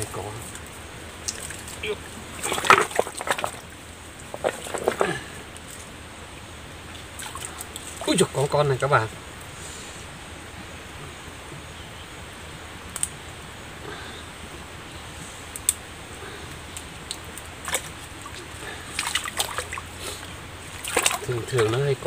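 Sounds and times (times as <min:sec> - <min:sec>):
creek water trickling: 0:00.0 - 0:22.0.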